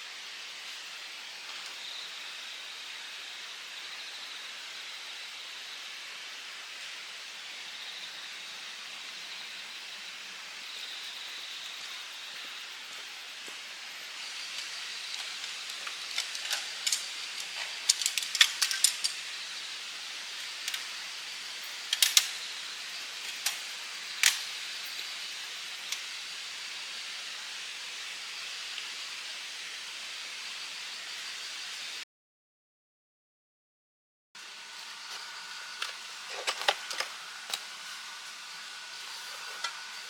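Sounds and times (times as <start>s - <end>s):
insects chirring: 0.2s - 32.0s, 34.4s - 40.0s.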